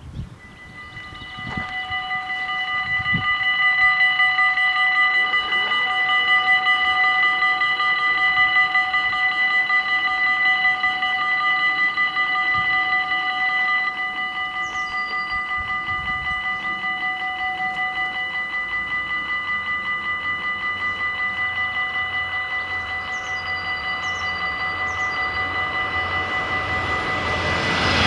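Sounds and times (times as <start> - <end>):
level-crossing warning bells ringing: 0.0 - 28.0.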